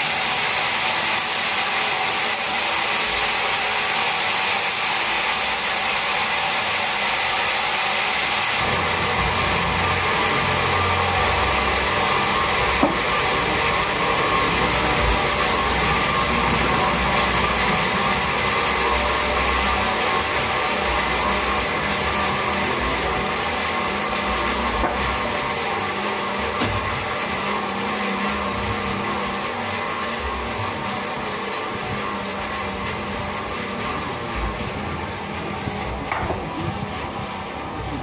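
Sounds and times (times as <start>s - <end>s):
sawmill saw whining: 0.0s - 38.0s.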